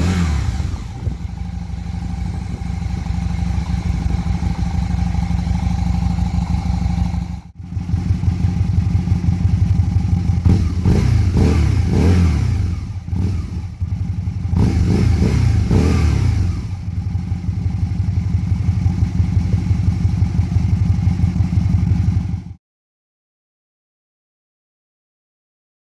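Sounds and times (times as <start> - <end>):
motorcycle engine idling and revving: 0.0 - 22.6.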